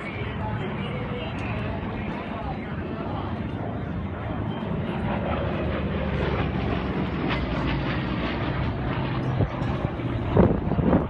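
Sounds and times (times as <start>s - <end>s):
airplane engine flying over: 0.0s - 11.0s.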